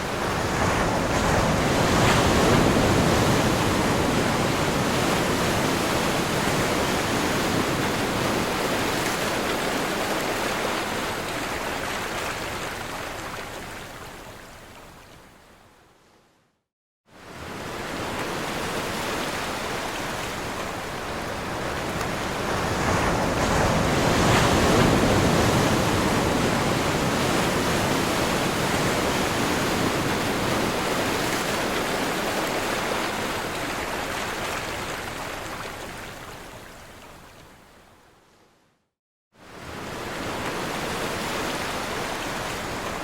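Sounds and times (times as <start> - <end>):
ocean waves crashing on shore: 0.0 - 14.0, 17.2 - 36.9, 39.4 - 43.0.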